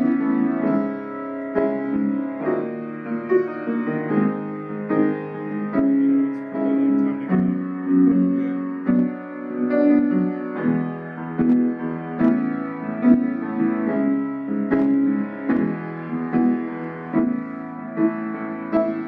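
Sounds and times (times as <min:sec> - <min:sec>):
slow solo piano piece: 0:00.0 - 0:19.0.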